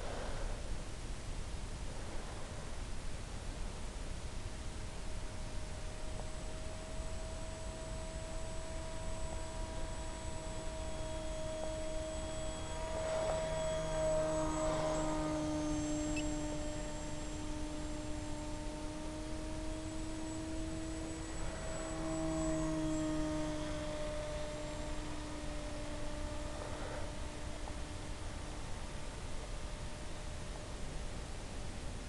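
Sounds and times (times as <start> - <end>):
electric motor and propeller whining: 0.0 - 32.0.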